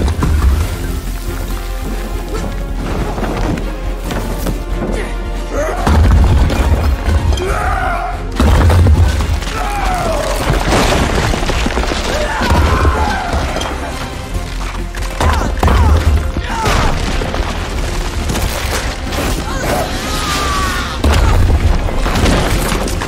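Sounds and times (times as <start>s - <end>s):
dramatic film score: 0.0s - 23.0s.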